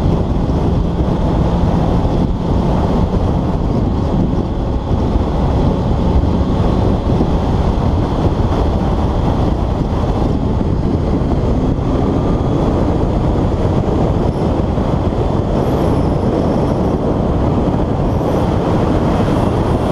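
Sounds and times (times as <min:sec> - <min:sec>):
motorcycle engine running: 0:00.0 - 0:19.9
wind rushing over microphone: 0:00.0 - 0:19.9.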